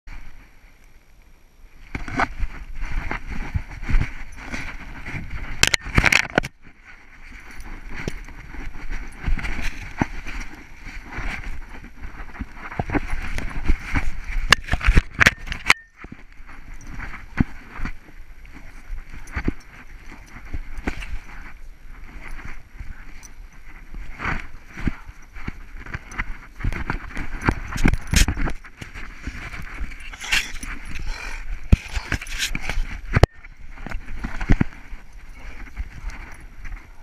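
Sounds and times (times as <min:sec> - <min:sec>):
camera handling rubbing and rumbling: 0:01.8 - 0:37.0.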